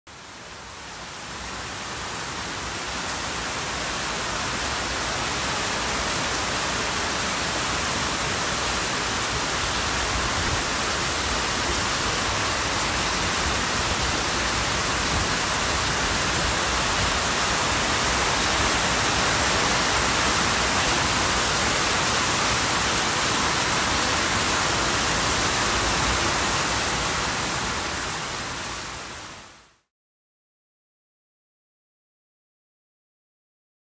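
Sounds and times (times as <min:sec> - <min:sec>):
heavy rain pouring: 0:00.2 - 0:29.6.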